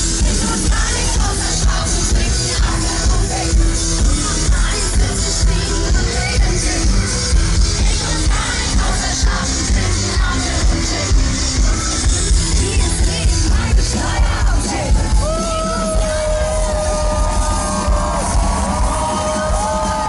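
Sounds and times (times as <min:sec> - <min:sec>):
live band through pa: 0:00.0 - 0:20.0.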